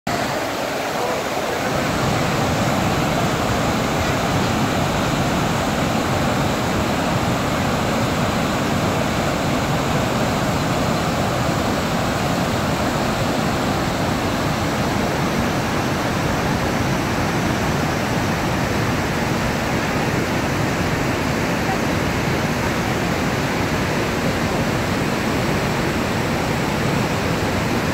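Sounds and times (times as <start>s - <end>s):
waterfall roaring: 0.1s - 27.9s.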